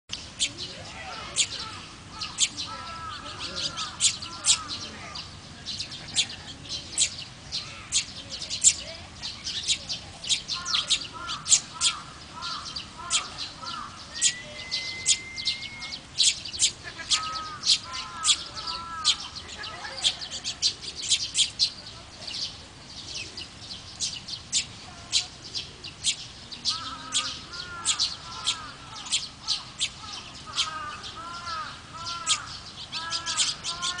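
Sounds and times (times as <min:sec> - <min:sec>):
sparrows chirping: 0:00.1 - 0:34.0
lower arching bird calls: 0:00.2 - 0:21.9, 0:23.0 - 0:34.0.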